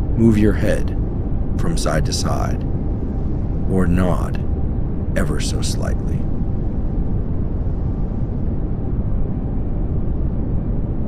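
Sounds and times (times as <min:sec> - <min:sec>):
bass-heavy pink noise hiss: 0:00.0 - 0:11.0.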